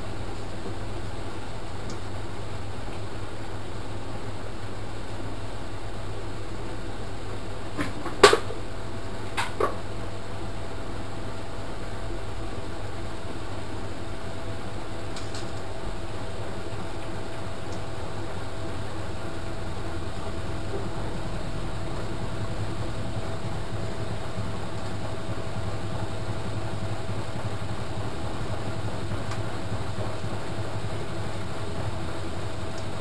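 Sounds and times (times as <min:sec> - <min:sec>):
faint constant whine: 0:00.0 - 0:33.0
washing machine motor hum: 0:00.0 - 0:33.0.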